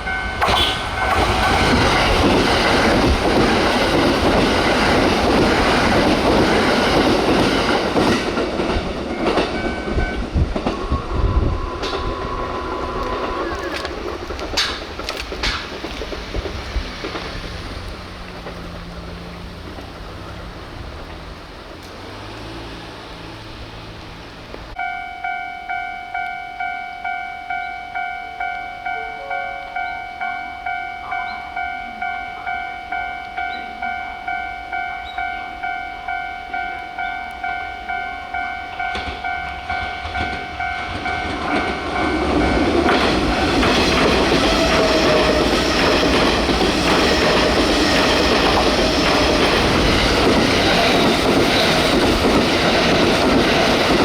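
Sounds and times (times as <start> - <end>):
level crossing warning bell: 0.0 - 15.3, 24.7 - 54.0
train passing over crossing: 0.0 - 54.0.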